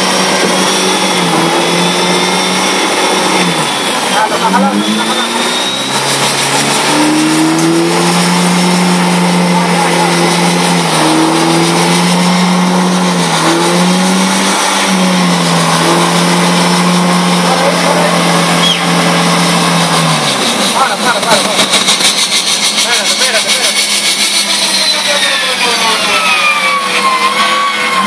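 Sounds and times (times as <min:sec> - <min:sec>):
pickup engine revving hard: 0:00.0 - 0:28.0.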